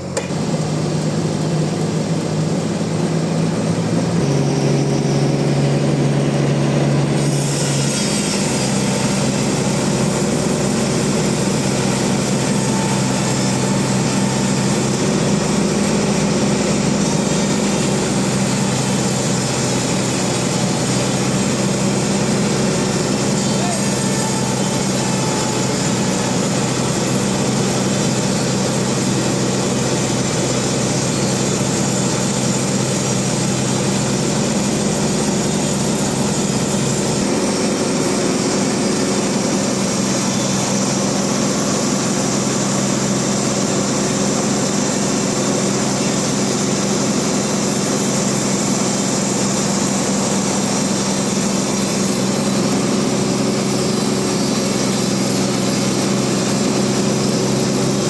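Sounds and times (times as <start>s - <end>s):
band saw milling a log: 0.0s - 58.0s.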